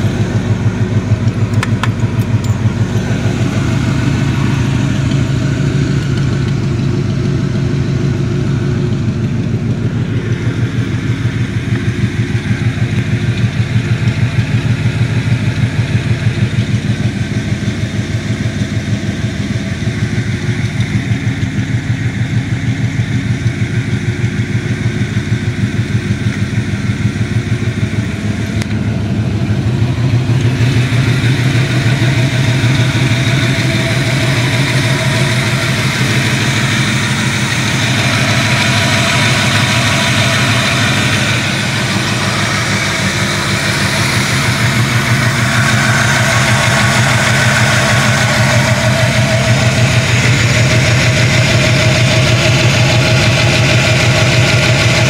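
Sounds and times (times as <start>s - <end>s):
vee eight engine idling: 0.0s - 55.0s.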